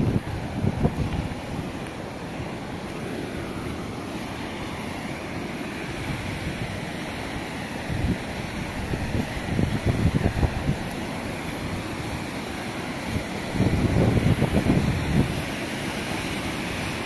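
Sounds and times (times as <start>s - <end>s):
wind buffeting microphone: 0.0s - 3.6s, 5.9s - 17.0s.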